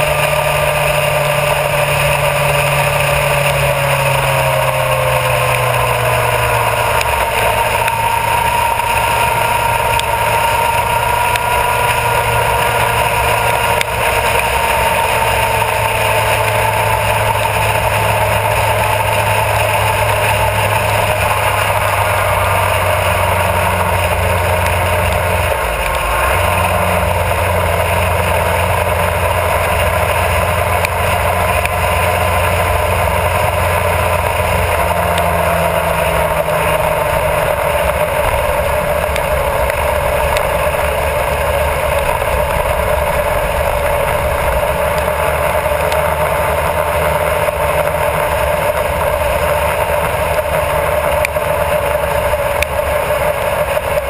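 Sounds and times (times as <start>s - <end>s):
motorcycle engine cruising: 0.0s - 54.0s
road noise: 0.0s - 54.0s.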